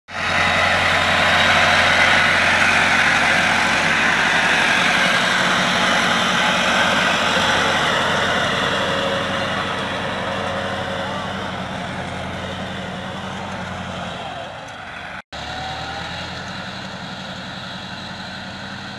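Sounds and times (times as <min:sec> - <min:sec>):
tractor diesel engine running: 0:00.1 - 0:18.9.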